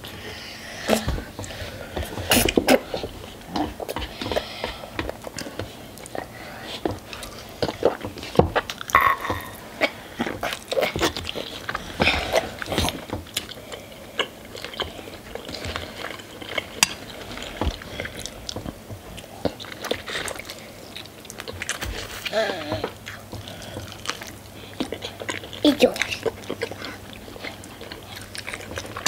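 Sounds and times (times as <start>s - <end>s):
close-miked chewing: 0.0s - 29.0s.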